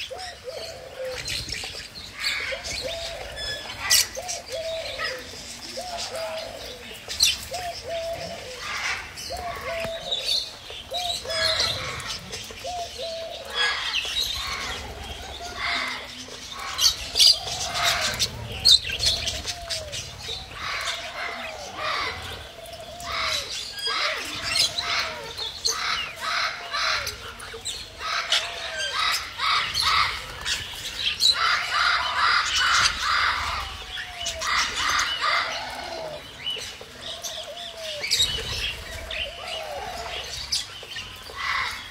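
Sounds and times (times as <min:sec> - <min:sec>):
parrots and pigeons chirping: 0:00.0 - 0:41.9.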